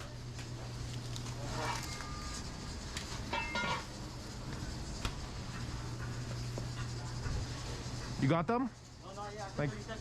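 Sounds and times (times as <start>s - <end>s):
kitchen equipment hum: 0.0s - 10.0s.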